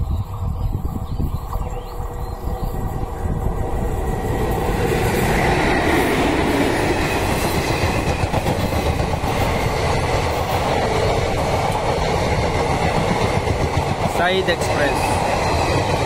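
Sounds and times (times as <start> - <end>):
passing train rumble: 0.0 - 16.0.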